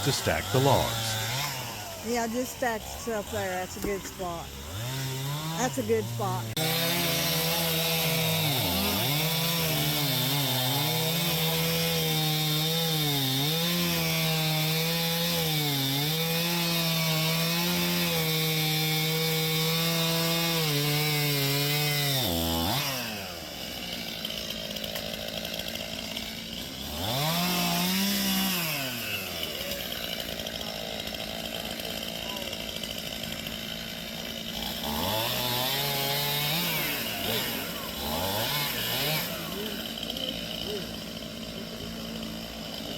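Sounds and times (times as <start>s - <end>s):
chainsaw cutting wood: 0.0s - 42.9s
chainsaw idling: 0.0s - 42.9s.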